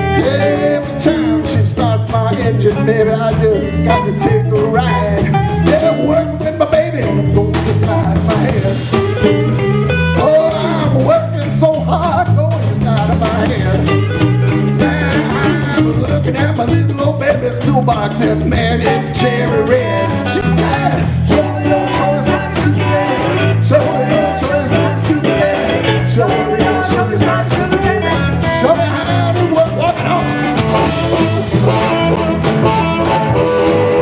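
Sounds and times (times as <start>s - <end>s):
bass guitar: 0.0s - 34.0s
electric guitar lead: 0.0s - 34.0s
steady drum beat: 0.0s - 34.0s.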